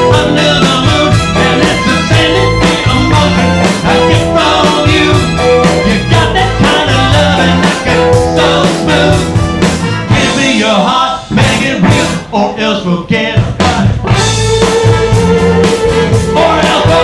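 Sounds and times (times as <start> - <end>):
electric guitar: 0.0 - 12.4, 13.4 - 17.0
person singing: 0.0 - 14.0, 14.6 - 17.0
drum kit beats: 0.0 - 17.0.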